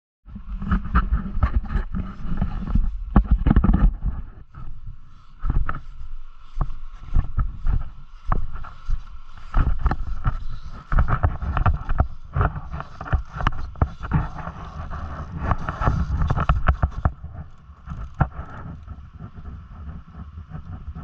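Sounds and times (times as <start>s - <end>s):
wind buffeting microphone: 0.3s - 21.0s
irregular thumps: 0.4s - 21.0s
dirt bike engine running: 2.8s - 21.0s.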